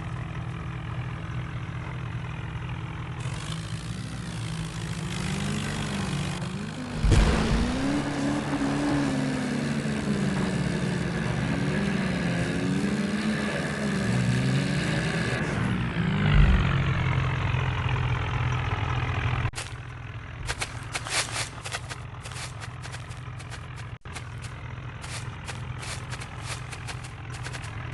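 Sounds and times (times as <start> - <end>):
tractor diesel engine revving: 2.6 - 27.9.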